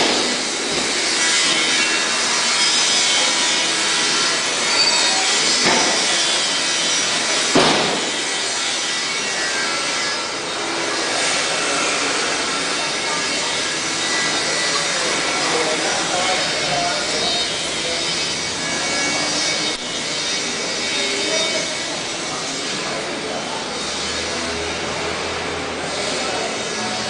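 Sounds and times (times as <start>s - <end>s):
steady loud noise: 0.0s - 27.0s.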